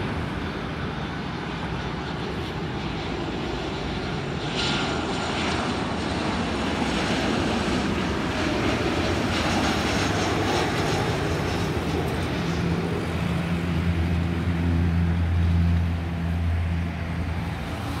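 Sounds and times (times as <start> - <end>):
jet passing low overhead: 0.0 - 18.0.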